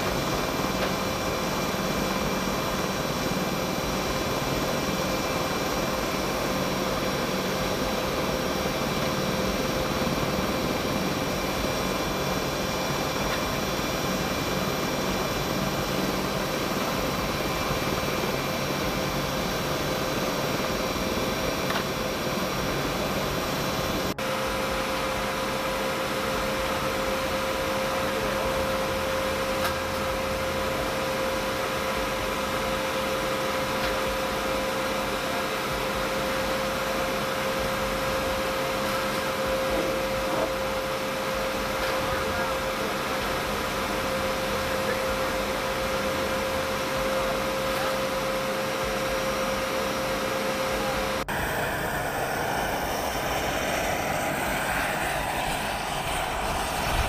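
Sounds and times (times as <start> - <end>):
machinery whirring and whining: 0.0 - 57.0.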